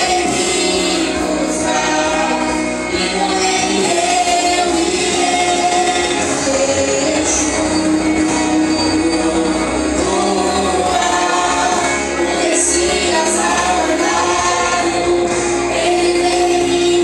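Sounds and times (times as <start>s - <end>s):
vocal group singing gospel: 0.0s - 17.0s.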